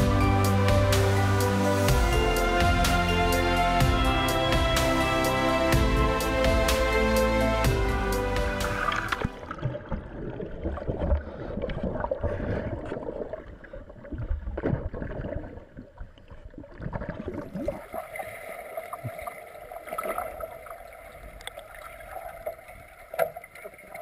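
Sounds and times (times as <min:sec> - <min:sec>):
water churning: 0:03.9 - 0:24.0.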